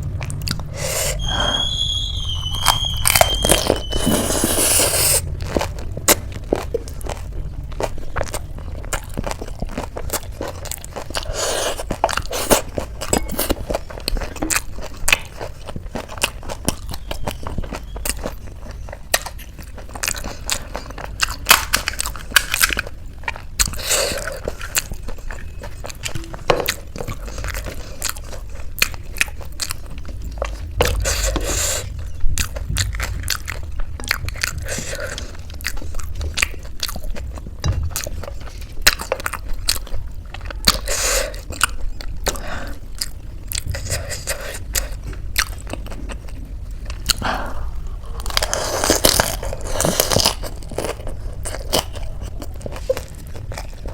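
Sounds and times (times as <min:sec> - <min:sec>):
chewing crisp snacks: 0:00.0 - 0:53.9.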